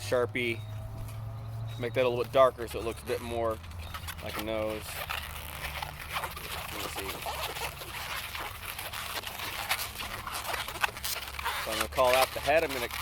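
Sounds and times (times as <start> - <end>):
rubbery balloon squeaks: 0.4 - 13.0.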